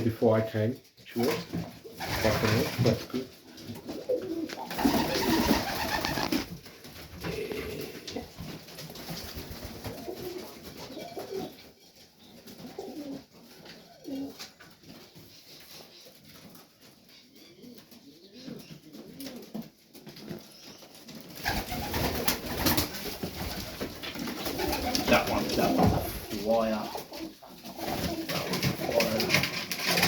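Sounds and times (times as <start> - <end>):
pigeons cooing: 1.8 - 8.6, 9.3 - 16.2, 17.1 - 30.0
rustling and scuffling: 2.5 - 17.9, 18.5 - 30.0.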